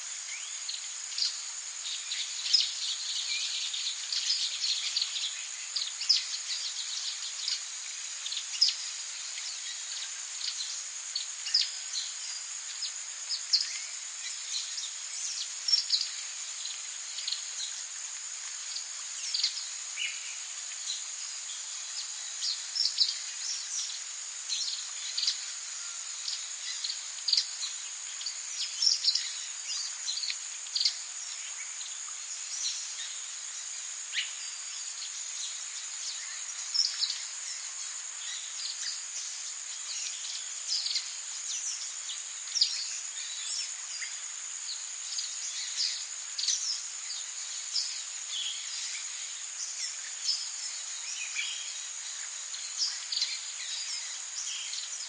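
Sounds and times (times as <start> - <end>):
soft hiss of rain: 0.0 - 55.0.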